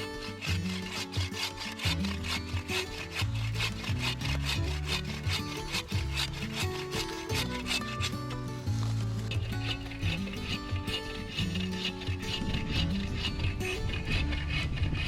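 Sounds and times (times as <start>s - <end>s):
background music: 0.0s - 15.0s
hand saw cutting wood: 0.0s - 15.0s.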